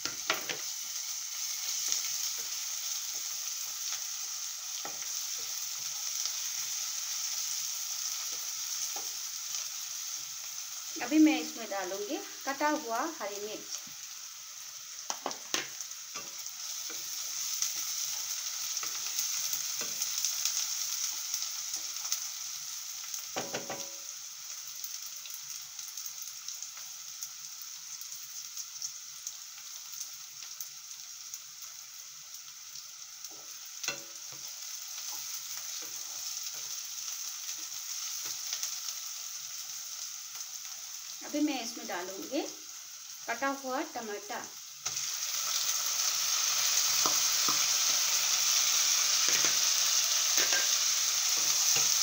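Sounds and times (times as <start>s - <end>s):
onions sizzling in hot oil: 0.0s - 52.0s.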